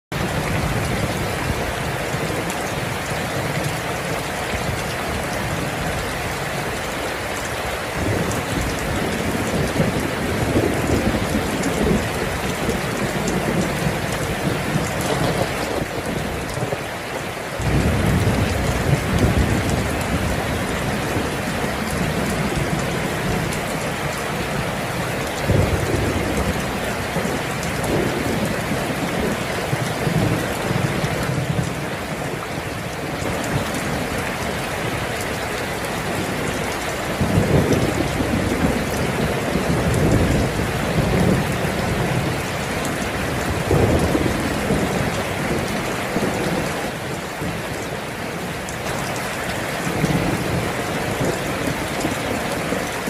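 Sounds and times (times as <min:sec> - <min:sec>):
steady rain: 0:00.1 - 0:53.0
thunder rumbling: 0:00.2 - 0:16.9, 0:17.5 - 0:35.0, 0:35.9 - 0:53.0.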